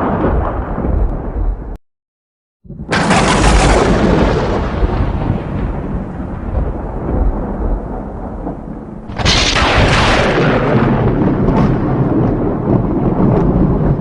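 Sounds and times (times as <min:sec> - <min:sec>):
loud thunderclap: 0:00.0 - 0:01.8, 0:02.7 - 0:14.0
thunder rumbling: 0:00.0 - 0:01.8, 0:02.7 - 0:14.0.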